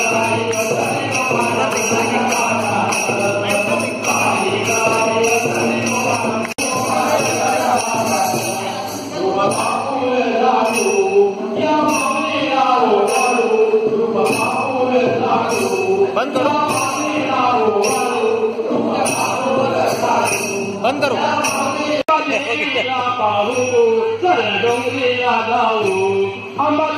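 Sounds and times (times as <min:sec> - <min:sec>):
jingling bells: 0:00.0 - 0:26.9.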